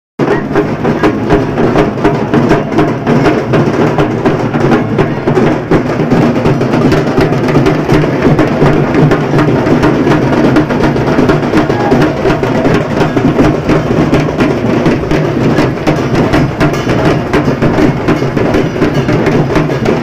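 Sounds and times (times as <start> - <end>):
loud drum-driven music: 0.2 - 20.0.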